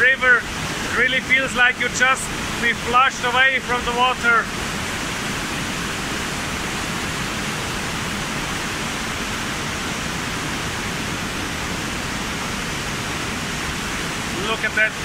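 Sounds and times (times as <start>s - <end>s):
waterfall thundering: 0.0s - 15.0s.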